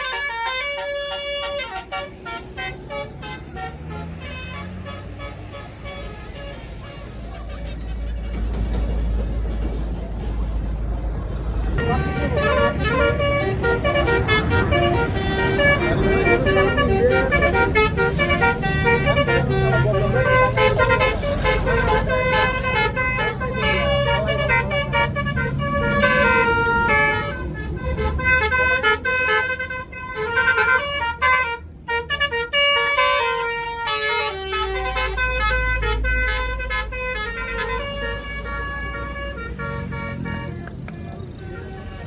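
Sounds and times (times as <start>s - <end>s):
multi-tone bus horn tune: 0.0s - 10.8s, 11.5s - 42.0s
bus engine rumble: 0.0s - 42.0s.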